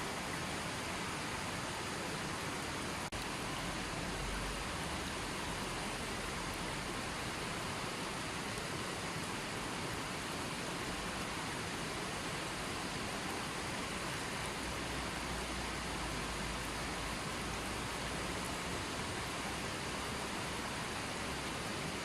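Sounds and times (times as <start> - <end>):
spring water rushing: 0.0 - 22.0.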